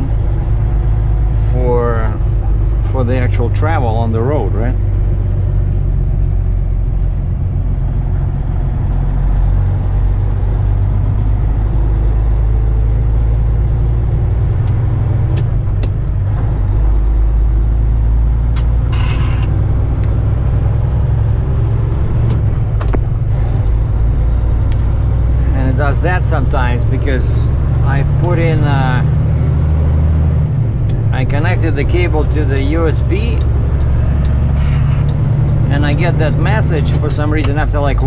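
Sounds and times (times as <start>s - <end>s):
diesel truck engine rumbling: 0.0s - 38.0s.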